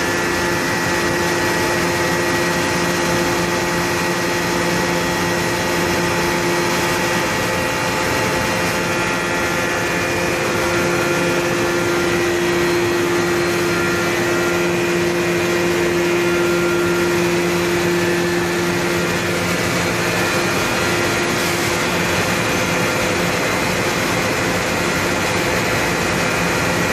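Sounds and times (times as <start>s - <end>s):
machine whirring with blower: 0.0s - 26.9s.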